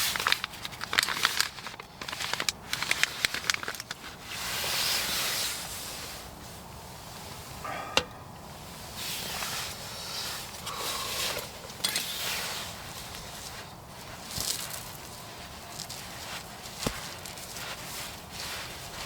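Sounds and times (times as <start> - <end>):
rustling and crinkling handling: 0.0 - 7.6, 8.7 - 19.0.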